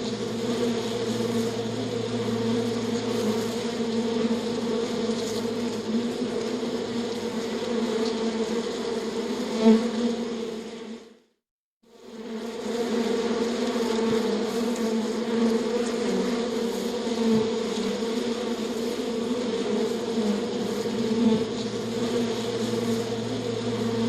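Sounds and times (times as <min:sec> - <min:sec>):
buzzing insect wings: 0:00.0 - 0:11.1, 0:11.9 - 0:24.0.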